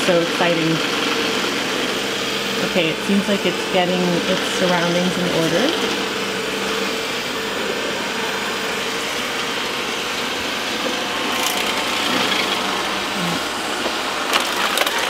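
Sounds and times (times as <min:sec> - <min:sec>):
robot vacuum motor humming: 0:00.0 - 0:15.0.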